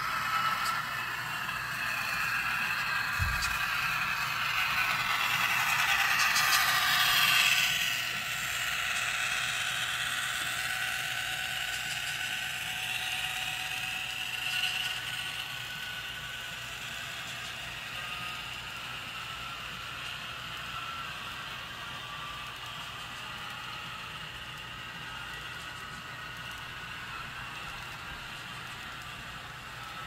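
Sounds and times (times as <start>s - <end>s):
model train motor whirring: 0.0s - 30.0s.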